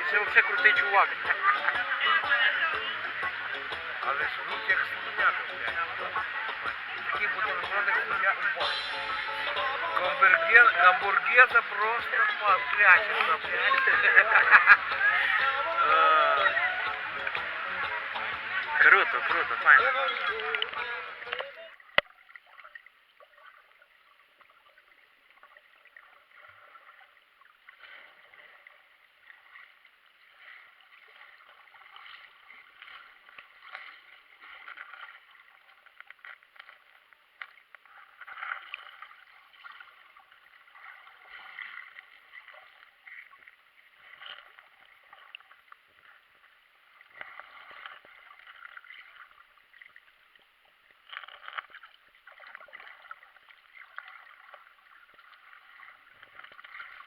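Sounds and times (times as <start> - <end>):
water gurgling and trickling: 0.0 - 57.0.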